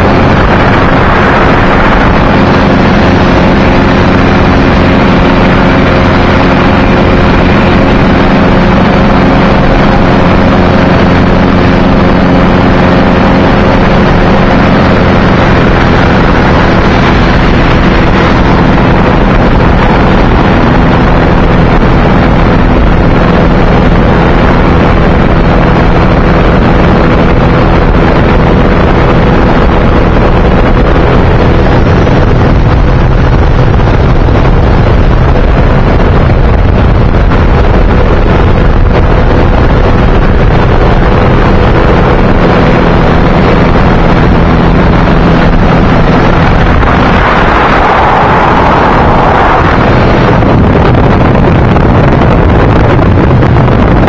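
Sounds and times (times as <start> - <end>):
aircraft engine running: 0.0 - 54.0
wind rush on microphone: 0.0 - 54.0.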